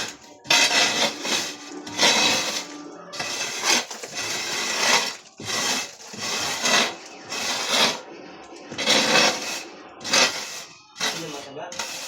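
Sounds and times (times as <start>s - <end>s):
rhythmic scraping rasps: 0.0s - 12.0s.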